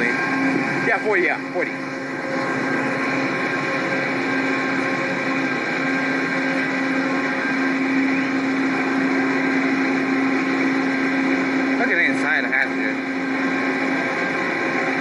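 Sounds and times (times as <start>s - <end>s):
steady hum tones: 0.0s - 15.0s
train mechanical drone: 0.0s - 15.0s.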